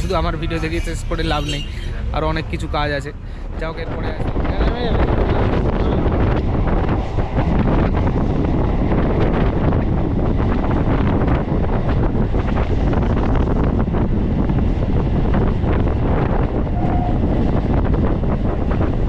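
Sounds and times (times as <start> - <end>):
train rumble: 0.0 - 19.0
wind buffeting microphone: 0.0 - 19.0.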